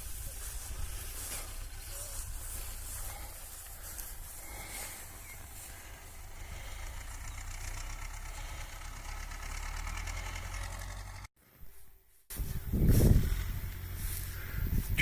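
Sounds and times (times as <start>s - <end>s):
tractor engine mowing: 0.0s - 15.0s.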